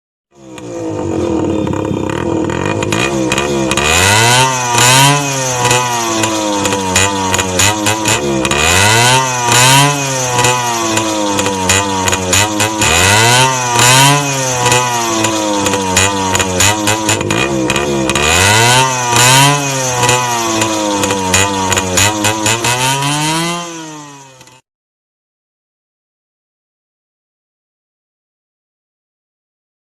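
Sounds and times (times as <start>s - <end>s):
two-stroke motorcycle engine revving: 0.3s - 24.6s.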